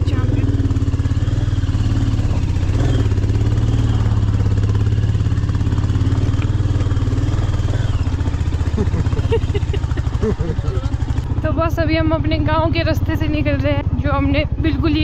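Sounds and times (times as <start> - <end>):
motorcycle engine low speed: 0.0 - 15.0.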